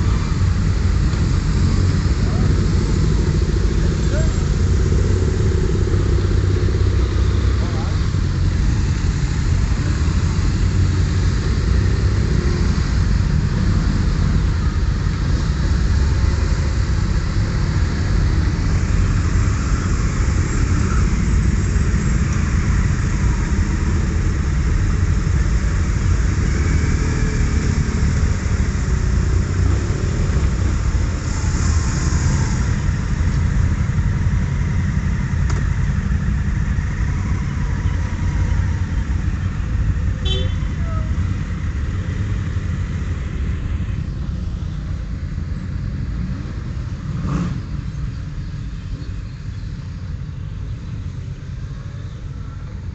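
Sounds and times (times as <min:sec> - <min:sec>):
motorcycle engines idling: 0:00.0 - 0:52.9.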